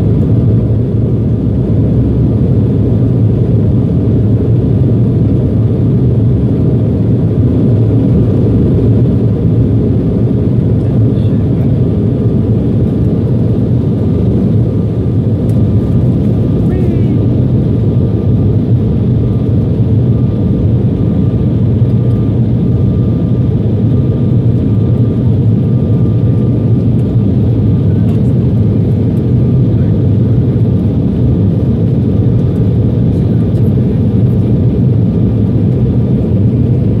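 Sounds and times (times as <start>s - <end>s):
faint steady whine: 0.0s - 37.0s
jet engines at high thrust: 0.0s - 37.0s.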